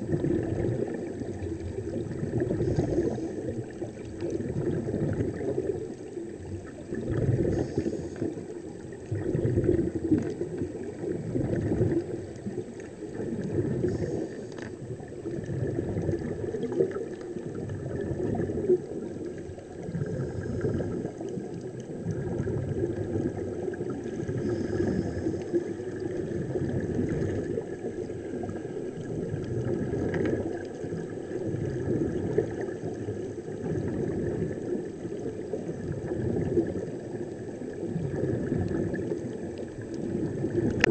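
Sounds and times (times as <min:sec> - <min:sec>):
underwater bubbling and gurgling: 0:00.0 - 0:40.9.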